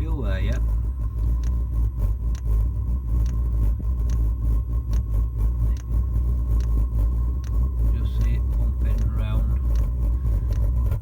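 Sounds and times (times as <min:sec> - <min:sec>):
fuel pump ticking: 0:00.0 - 0:11.0
heater fan humming and whining: 0:00.0 - 0:11.0.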